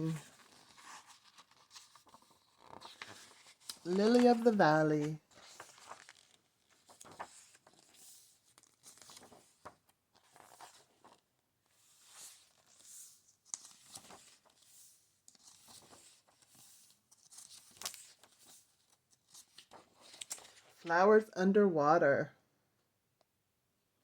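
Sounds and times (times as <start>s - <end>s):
book pages turning: 0.0s - 20.8s.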